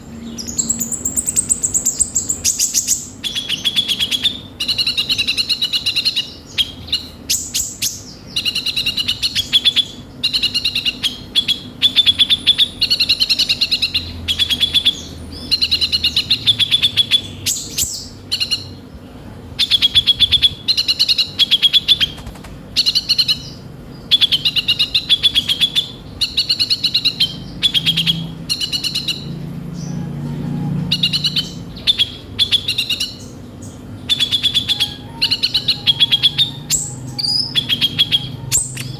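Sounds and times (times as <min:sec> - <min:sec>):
bird singing harsh chattering song: 0:00.0 - 0:38.9.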